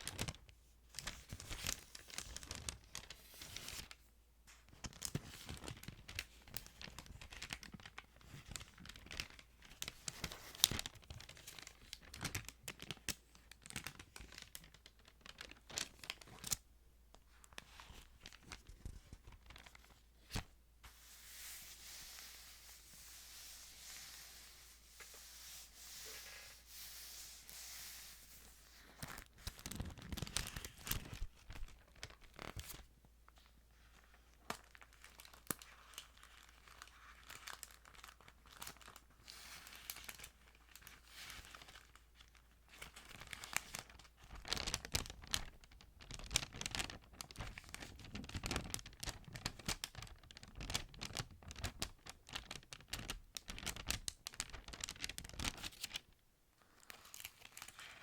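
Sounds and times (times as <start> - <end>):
thin pages turning and crinkling: 0.0 - 58.0.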